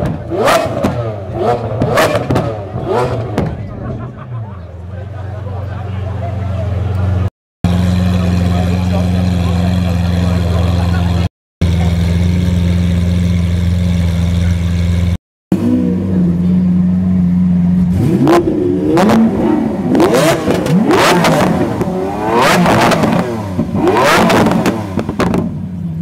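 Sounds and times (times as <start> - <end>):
car engine revving: 0.0 - 4.2, 5.0 - 26.0
car engine idling: 0.0 - 26.0.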